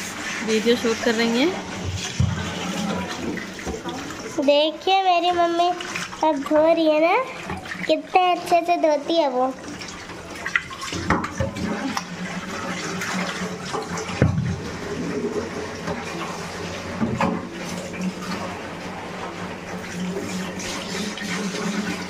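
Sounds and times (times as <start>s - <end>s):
tap water splashing over pot: 0.0s - 18.6s.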